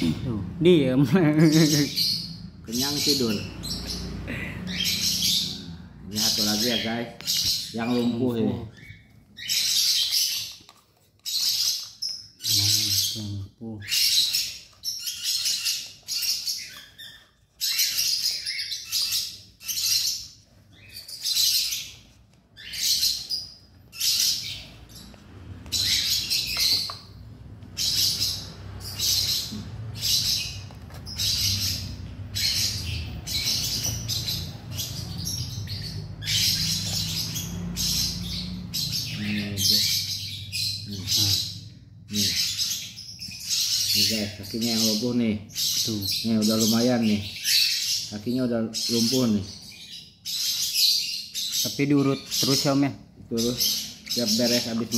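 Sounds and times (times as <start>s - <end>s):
squirrels squeaking: 0.0s - 54.9s.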